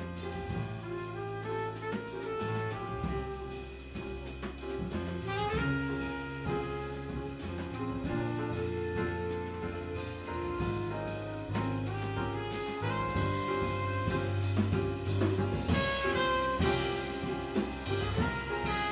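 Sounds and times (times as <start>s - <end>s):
bass guitar: 0.0s - 18.9s
drum kit with cymbal strokes: 0.0s - 18.9s
piano: 0.0s - 18.9s
trumpet melody: 0.0s - 18.9s.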